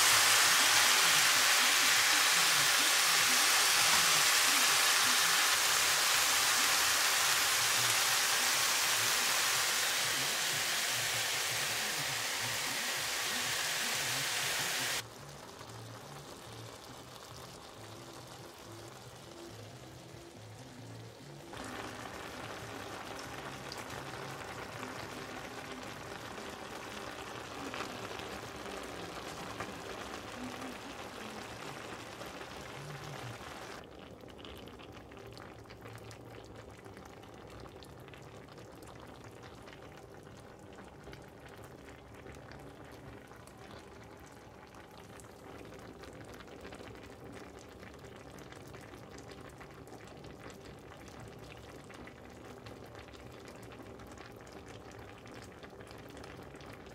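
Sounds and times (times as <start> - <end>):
food sizzling in a frying pan: 0.0 - 56.9
stew bubbling at a simmer: 0.0 - 56.9.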